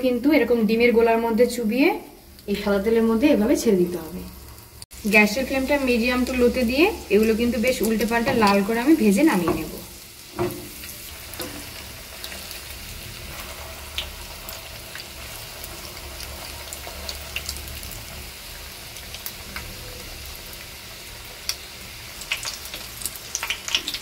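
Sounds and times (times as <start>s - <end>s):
spring rolls deep-frying sizzle: 0.0s - 24.0s.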